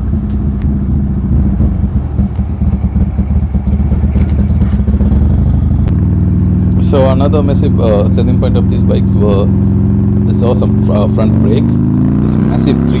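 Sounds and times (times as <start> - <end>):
motorcycle engine running loud: 0.0 - 13.0.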